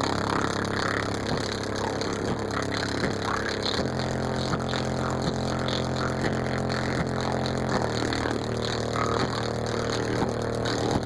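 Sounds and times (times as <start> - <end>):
faint regular beat: 0.0 - 11.0
heavy bass from car audio: 0.0 - 11.0.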